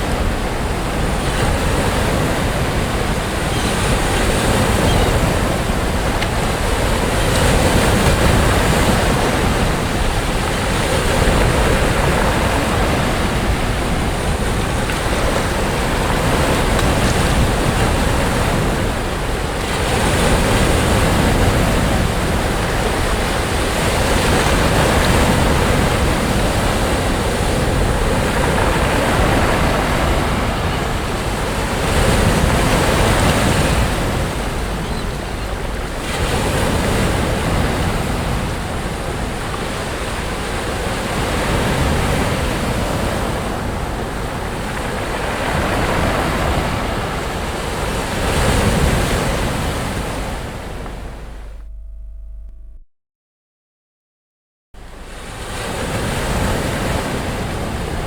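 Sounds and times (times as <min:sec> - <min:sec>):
sea waves breaking on beach: 0:00.0 - 0:51.6, 0:54.8 - 0:58.0
wind on microphone: 0:00.0 - 0:52.8.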